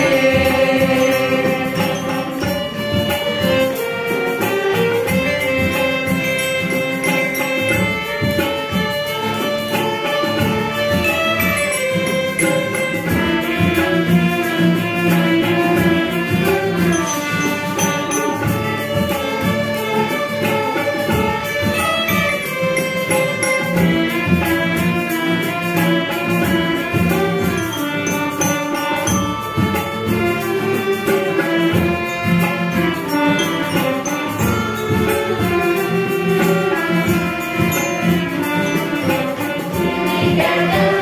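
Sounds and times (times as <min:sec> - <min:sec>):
hand drums: 0:00.0 - 0:41.0
harmonium: 0:00.0 - 0:41.0
sitar: 0:00.0 - 0:41.0
toy xylophone: 0:00.0 - 0:41.0
violins: 0:00.0 - 0:41.0.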